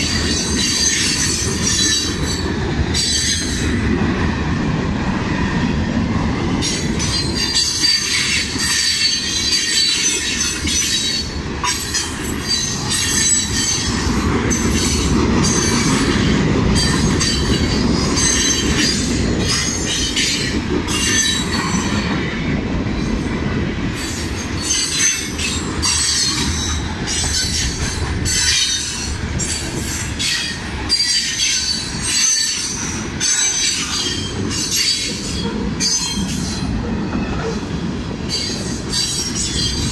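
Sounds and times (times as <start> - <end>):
train cars rumbling: 0.0 - 39.9.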